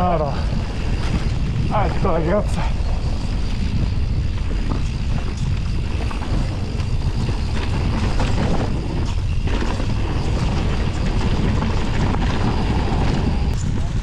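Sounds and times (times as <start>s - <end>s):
tyre rumble on trail: 0.0s - 14.0s
wind buffeting microphone: 0.0s - 14.0s
bike rattling clicks: 0.2s - 14.0s.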